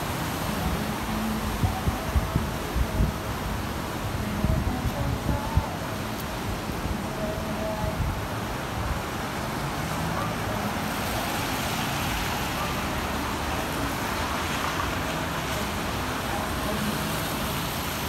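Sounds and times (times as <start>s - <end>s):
tyres hissing on wet road: 0.0s - 18.0s.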